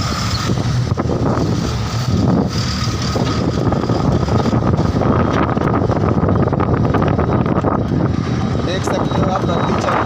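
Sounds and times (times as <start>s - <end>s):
car engine: 0.0s - 10.0s
road noise: 0.0s - 10.0s
wind buffeting microphone: 0.0s - 10.0s.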